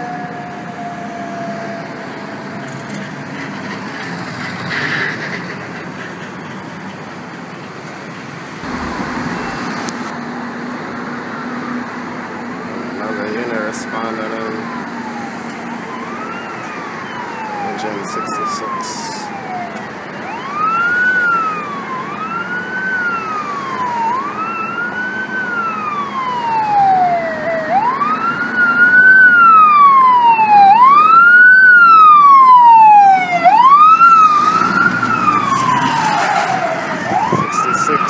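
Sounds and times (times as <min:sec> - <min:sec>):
fire engine siren wailing: 0:00.0 - 0:04.5, 0:07.6 - 0:38.0.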